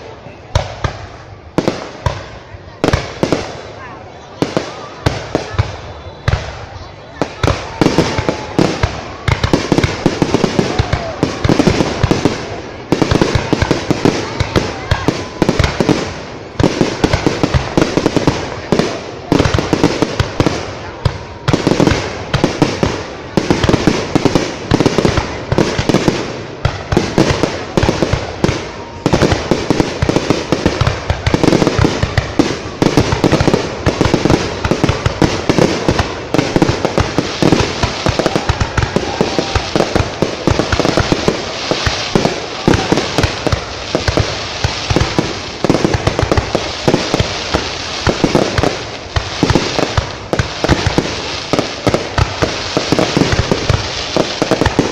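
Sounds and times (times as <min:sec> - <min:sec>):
fireworks banging: 0:00.0 - 0:54.9
fireworks crackling: 0:00.0 - 0:54.9.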